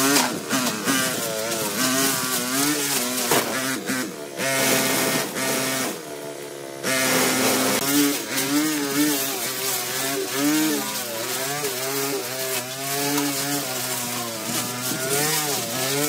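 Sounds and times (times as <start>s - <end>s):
weed cutter engine running: 0.0s - 16.0s.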